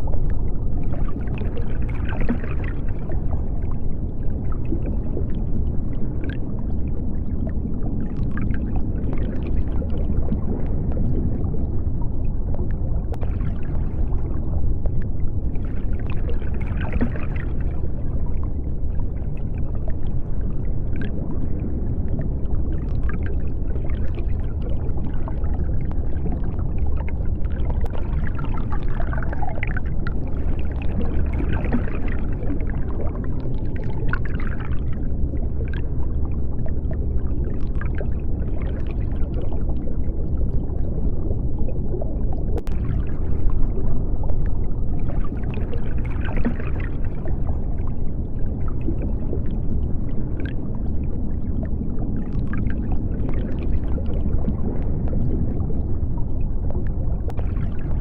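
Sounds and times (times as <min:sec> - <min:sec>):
bubbling: 0:00.0 - 0:58.0
deep underwater rumble: 0:00.0 - 0:58.0.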